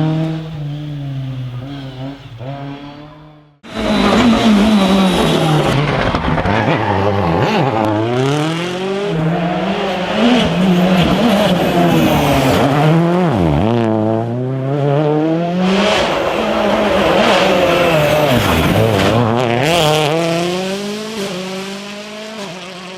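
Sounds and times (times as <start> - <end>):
rally car engine at full throttle: 0.0 - 22.9.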